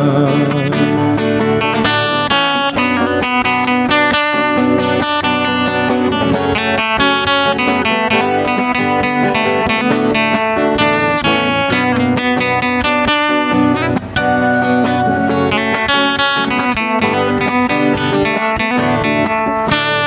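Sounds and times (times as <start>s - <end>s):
acoustic guitar plucked and strummed: 0.0s - 20.0s
backing instruments: 0.8s - 20.0s.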